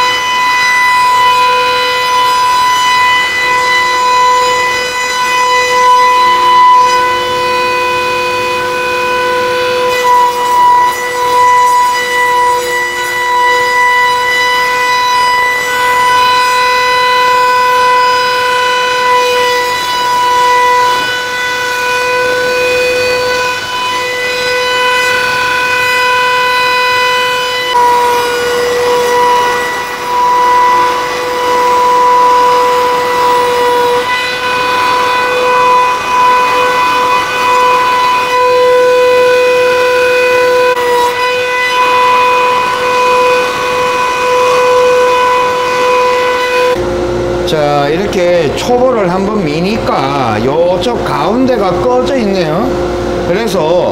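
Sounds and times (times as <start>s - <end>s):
bit cutting wood: 0.0s - 46.8s
spindle motor whining: 0.0s - 53.9s.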